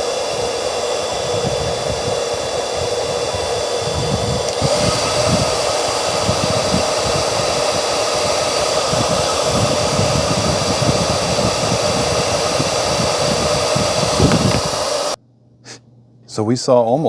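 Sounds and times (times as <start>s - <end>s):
hair dryer running: 0.0s - 15.2s.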